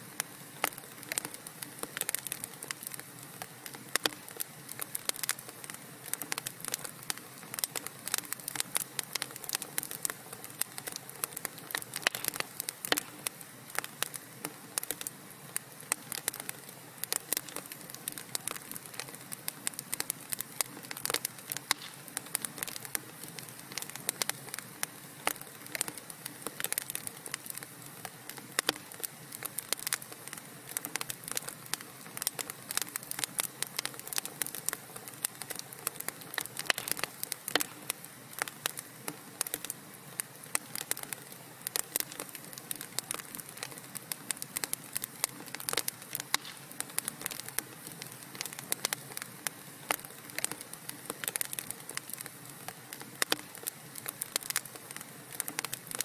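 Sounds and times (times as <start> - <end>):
wood fire crackling and popping: 0.1 - 56.0.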